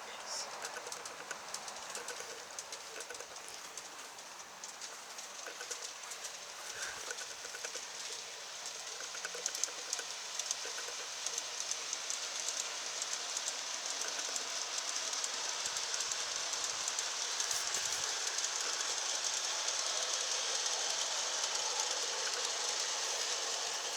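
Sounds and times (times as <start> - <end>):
model train wheels clicking: 0.0 - 23.9
rolling hiss: 0.0 - 23.9.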